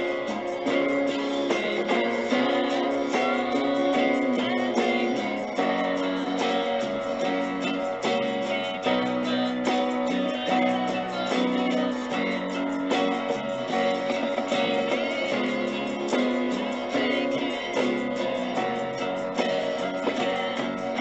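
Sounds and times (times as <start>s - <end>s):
guitar music: 0.0s - 21.0s.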